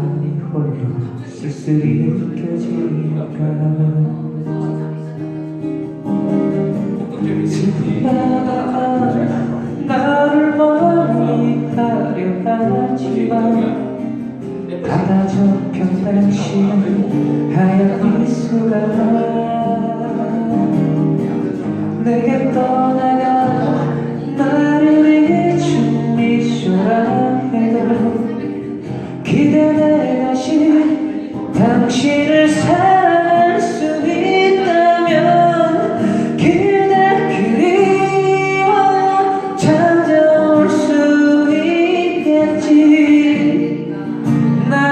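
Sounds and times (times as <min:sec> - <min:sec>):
person singing: 0:00.0 - 0:44.9
strummed acoustic guitar: 0:00.0 - 0:44.9.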